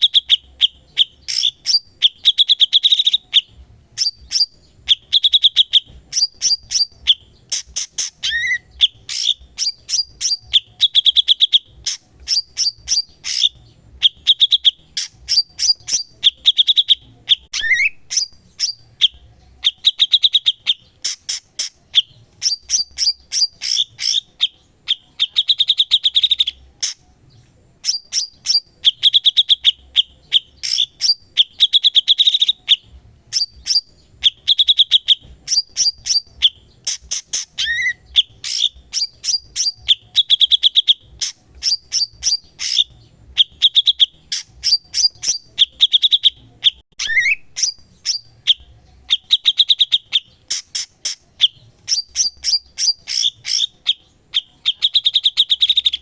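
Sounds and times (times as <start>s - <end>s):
bird singing trills and whistles: 0.0s - 56.0s.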